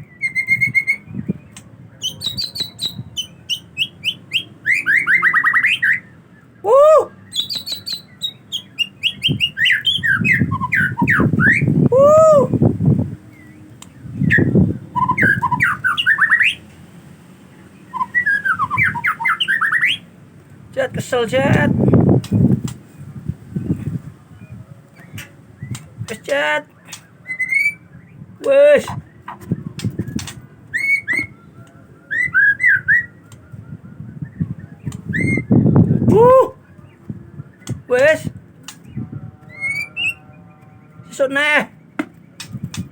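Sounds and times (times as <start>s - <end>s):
bird singing whistled notes: 0.0s - 16.7s, 17.7s - 20.1s, 21.3s - 42.9s.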